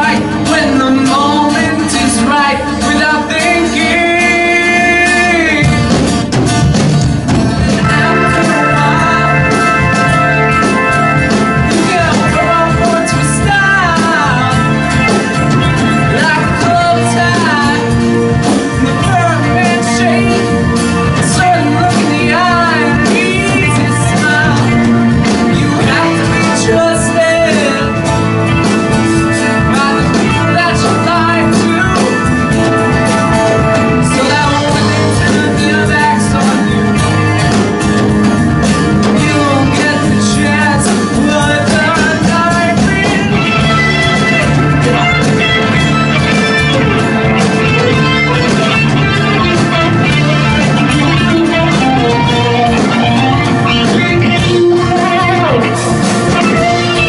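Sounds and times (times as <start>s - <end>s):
male lead vocal: 0.0s - 6.3s, 7.6s - 38.2s, 38.9s - 57.0s
electric guitars: 0.0s - 57.0s
keyboards: 0.0s - 57.0s
strummed acoustic guitar: 0.0s - 57.0s.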